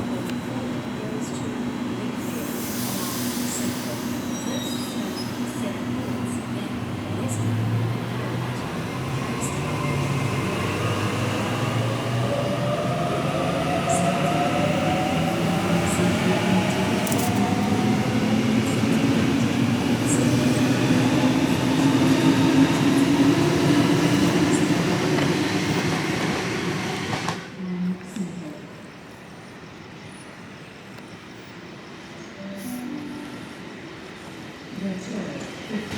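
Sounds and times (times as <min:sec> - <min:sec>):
train wheels rumbling on rail: 0:00.0 - 0:27.7, 0:33.7 - 0:35.9.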